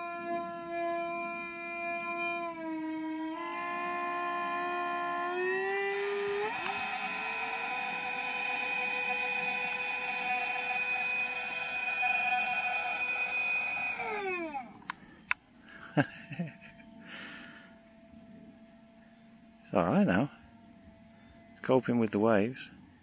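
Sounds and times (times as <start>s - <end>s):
high-pitched motor whine: 0.0s - 15.4s, 16.0s - 23.0s.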